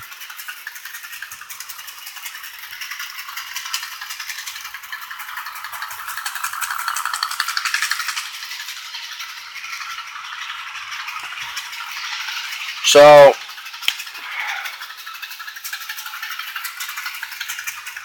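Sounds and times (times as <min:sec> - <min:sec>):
model train wheels clicking on rails: 0:00.0 - 0:18.0.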